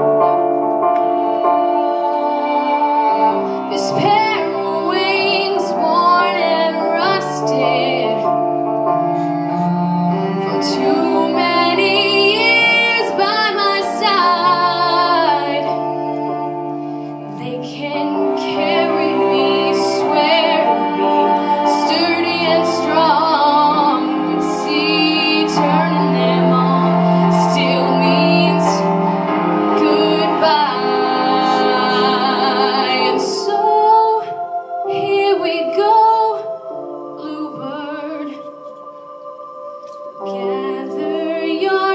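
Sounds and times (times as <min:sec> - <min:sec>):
instrumental accompaniment: 0:00.0 - 0:41.9
woman singing with vibrato: 0:01.8 - 0:08.3, 0:10.2 - 0:15.8, 0:17.3 - 0:41.9.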